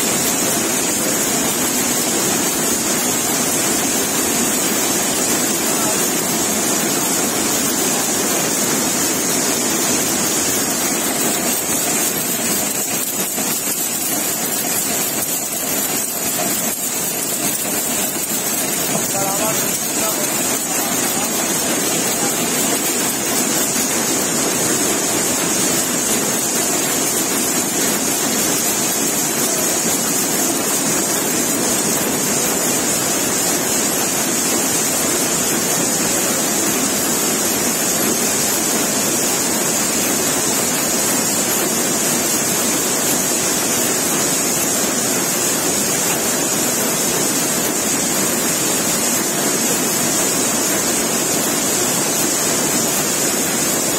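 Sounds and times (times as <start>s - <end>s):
looms running with high hiss: 0.0s - 53.9s.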